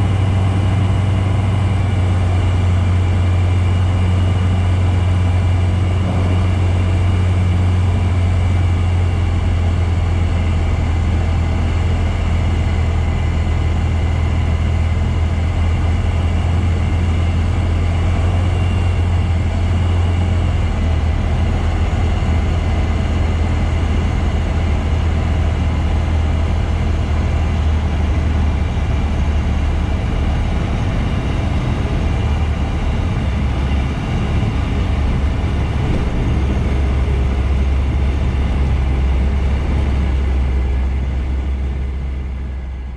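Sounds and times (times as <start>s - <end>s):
light aircraft engine drone: 0.0s - 42.9s.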